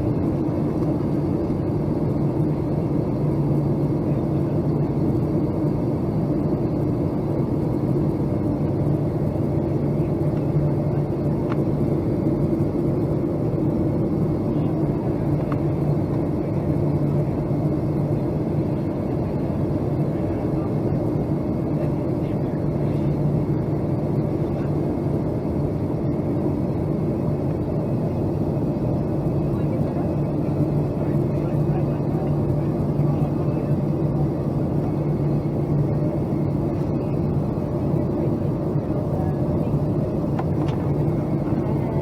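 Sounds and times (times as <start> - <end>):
airplane cabin drone: 0.0 - 42.0.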